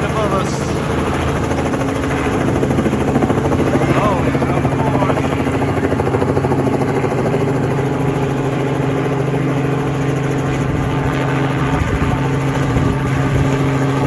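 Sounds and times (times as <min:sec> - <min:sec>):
helicopter engine drone: 0:00.0 - 0:14.0
helicopter rotor chopping: 0:00.0 - 0:14.0.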